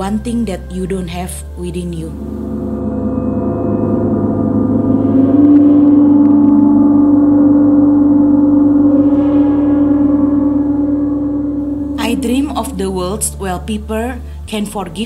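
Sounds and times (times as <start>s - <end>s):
meditative drone music: 0.0s - 15.0s
strong low tone: 2.0s - 15.0s.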